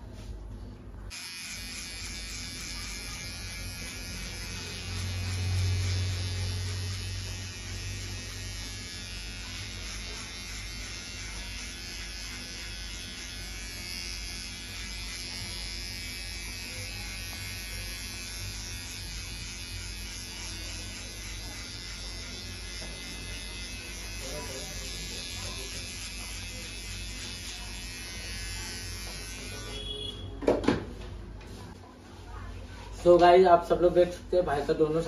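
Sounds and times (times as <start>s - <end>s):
electric hair trimmer buzzing: 1.1s - 30.2s.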